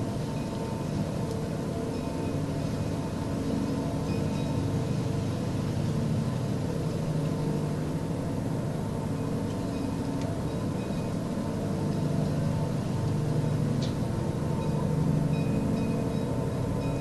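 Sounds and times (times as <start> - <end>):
low droning hum: 0.0 - 17.0.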